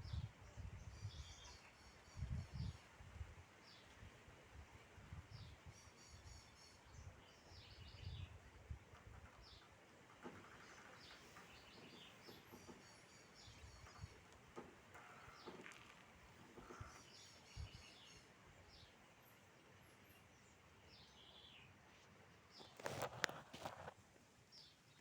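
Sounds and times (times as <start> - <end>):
faint bird chirps and trills: 0.0 - 3.0, 5.1 - 23.8.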